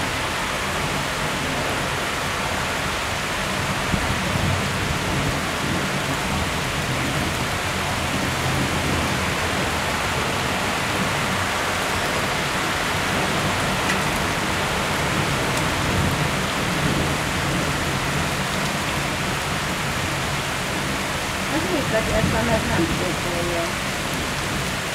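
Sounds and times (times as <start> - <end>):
heavy rain pouring: 0.0 - 24.9.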